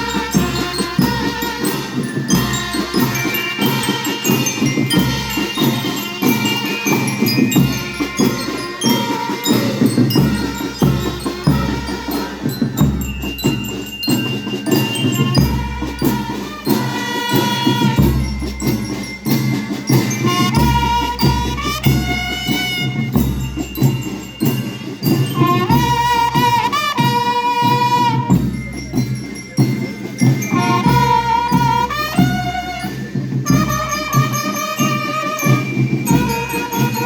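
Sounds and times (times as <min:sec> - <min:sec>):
bell-like melodic instruments: 0:00.0 - 0:37.0
percussion strikes: 0:00.0 - 0:37.0
rhythm band playing: 0:00.0 - 0:37.0.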